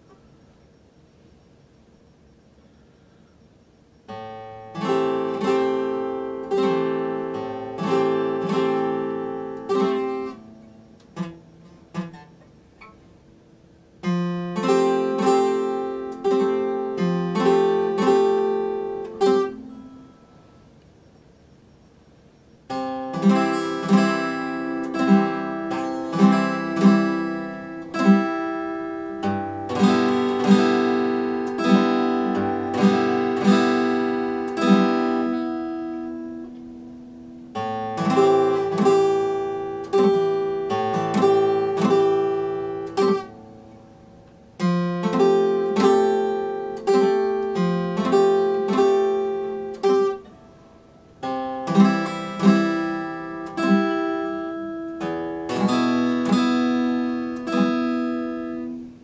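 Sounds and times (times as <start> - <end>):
acoustic guitar chords: 0.0 - 59.0.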